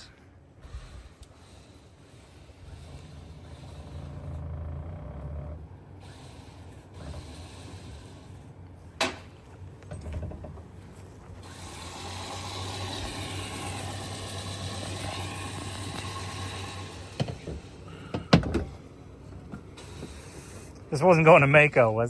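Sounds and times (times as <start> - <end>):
machinery whirring: 1.1 - 21.0.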